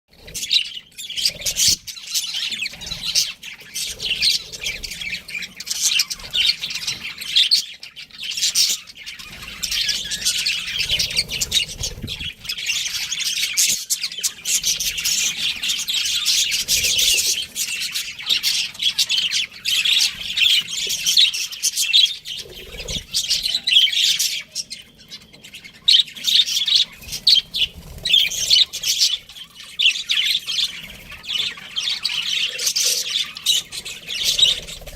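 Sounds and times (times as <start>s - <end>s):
budgerigars chirping and chattering: 0.1s - 34.9s.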